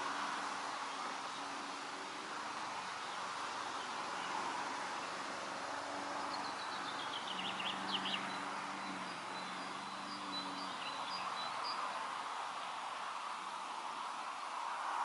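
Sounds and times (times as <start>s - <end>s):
wind hiss: 0.0s - 15.0s.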